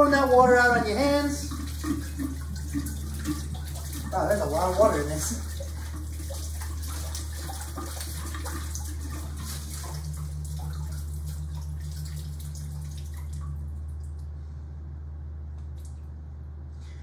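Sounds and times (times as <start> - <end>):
water splashing into sink: 0.0 - 14.2.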